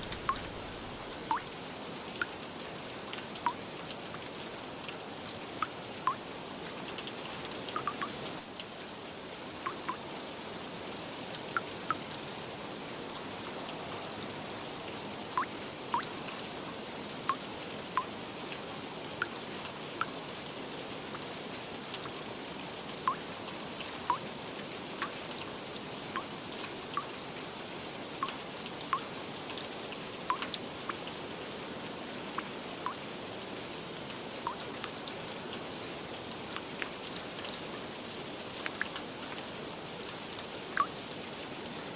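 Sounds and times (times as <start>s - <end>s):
rain hiss: 0.0s - 41.9s.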